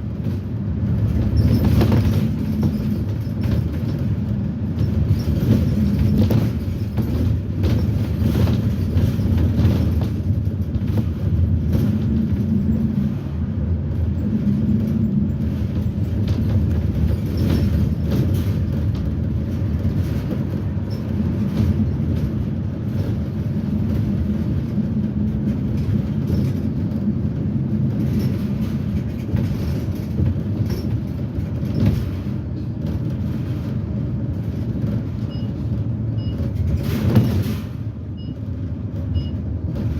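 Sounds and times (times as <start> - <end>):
body rattles and knocks: 0.0 - 39.9
bus engine drone: 0.0 - 39.9.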